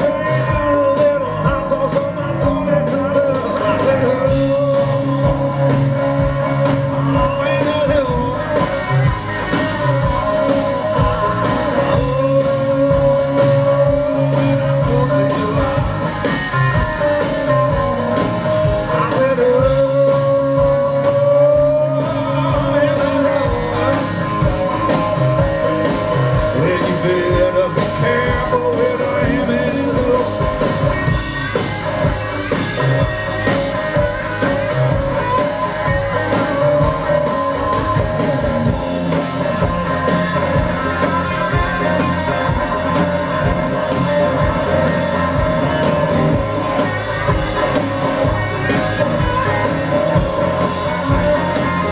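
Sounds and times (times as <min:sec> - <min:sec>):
blues-rock band playing: 0:00.0 - 0:51.9
electric guitar bending notes: 0:00.0 - 0:51.9
person singing: 0:00.0 - 0:51.9.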